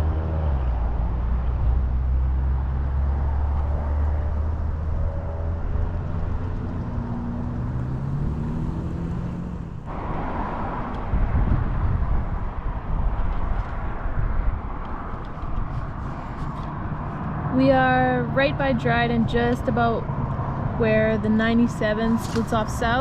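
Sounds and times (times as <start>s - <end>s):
motorcycle engine drone: 0.0s - 23.0s.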